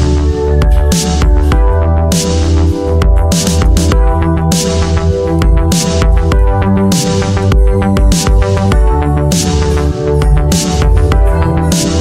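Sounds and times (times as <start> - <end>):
electronic music with pulsing bass: 0.0 - 12.0.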